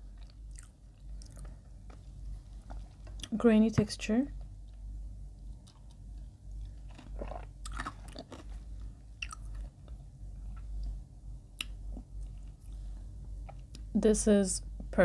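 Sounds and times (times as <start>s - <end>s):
chewing soft bread: 0.0s - 3.4s, 4.4s - 13.9s.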